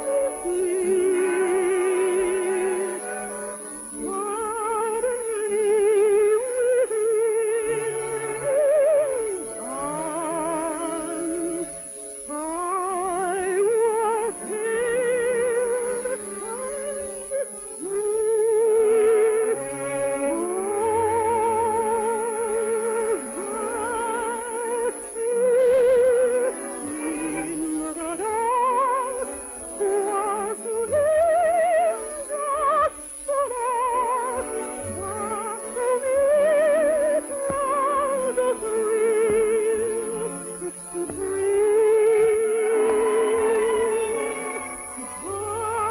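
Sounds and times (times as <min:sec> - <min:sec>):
operetta singing with orchestra: 0:00.0 - 0:45.9.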